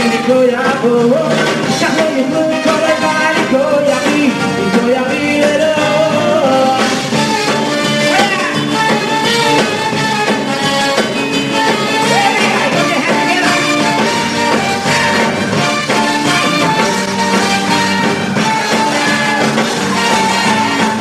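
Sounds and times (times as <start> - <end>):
live concert band music: 0.0 - 21.0.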